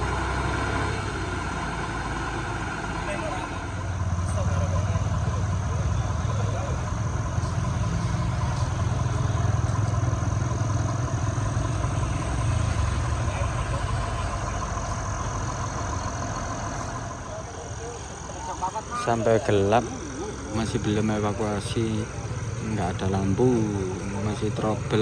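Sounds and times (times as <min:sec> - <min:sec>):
heavy truck engine running: 0:00.0 - 0:25.0.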